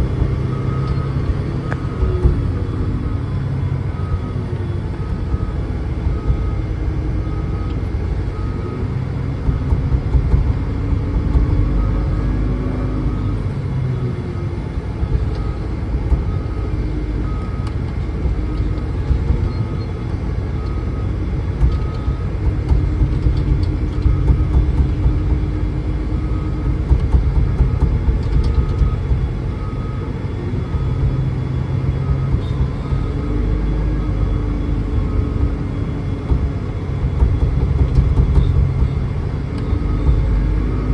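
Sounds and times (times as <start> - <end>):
diesel truck engine rumbling: 0.0 - 40.9.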